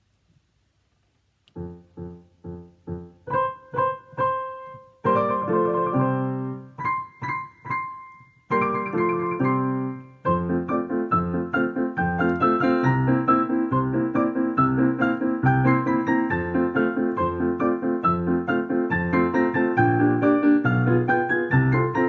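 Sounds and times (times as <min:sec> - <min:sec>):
low piano chords: 0:01.5 - 0:22.0
piano melody notes: 0:01.5 - 0:22.0.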